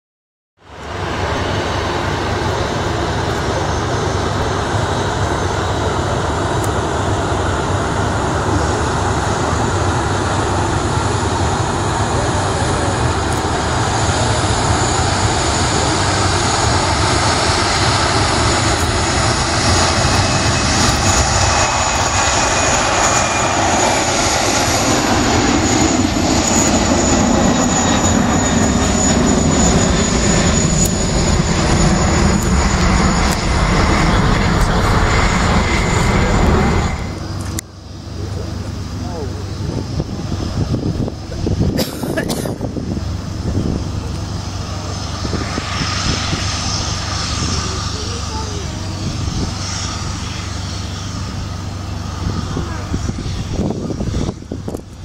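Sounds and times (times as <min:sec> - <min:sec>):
jet engines at takeoff: 0:00.6 - 0:55.0.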